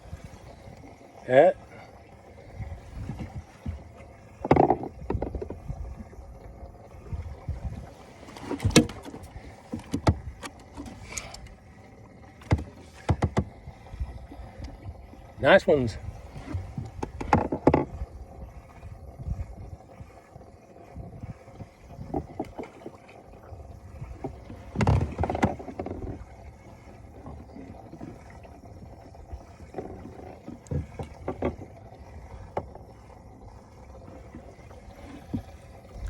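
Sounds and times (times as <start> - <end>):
knocks and bumps in a boat: 2.5 - 11.5, 12.2 - 20.1, 20.9 - 33.2, 34.1 - 36.0.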